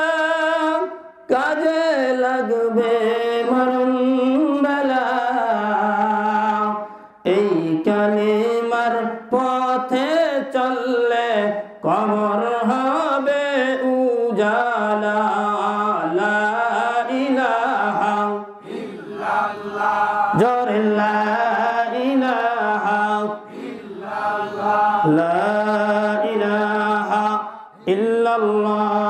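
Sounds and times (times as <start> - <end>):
man chanting into a microphone: 0.0 - 29.0.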